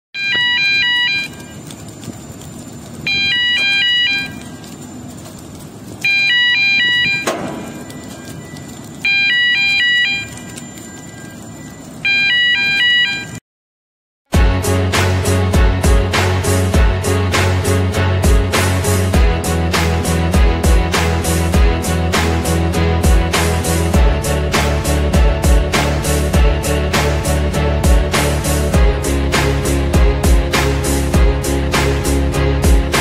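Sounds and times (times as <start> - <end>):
electronic warning alarm melody: 0.2 - 1.9, 3.0 - 5.0, 6.0 - 13.4, 14.4 - 33.0
machinery rumble: 0.2 - 12.1, 14.4 - 33.0.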